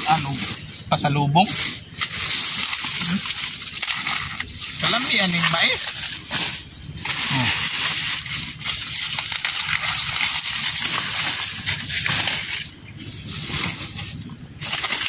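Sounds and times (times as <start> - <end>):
dry corn leaves rustling: 0.0 - 15.0.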